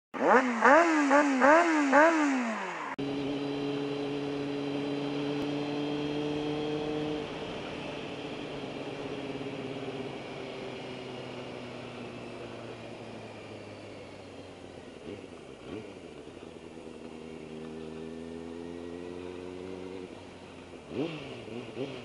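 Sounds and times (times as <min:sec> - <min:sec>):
motorcycle cruising: 0:00.2 - 0:22.0
motorcycle engine revving: 0:00.2 - 0:22.0
wind and road noise: 0:00.2 - 0:22.0.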